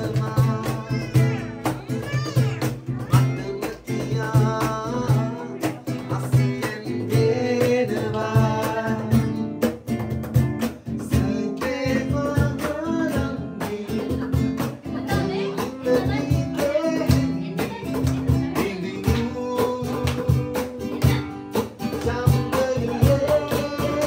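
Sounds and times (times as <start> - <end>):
people singing: 0.0 - 2.2, 2.9 - 9.4, 11.0 - 24.0
acoustic guitar strumming: 0.0 - 24.0
slapped cajon beat: 0.0 - 24.0.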